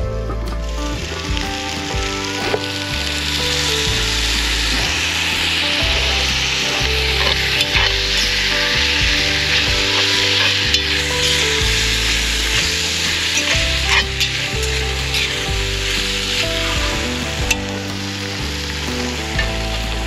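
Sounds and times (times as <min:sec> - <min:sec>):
fat sizzling in cast iron: 0:01.0 - 0:20.0.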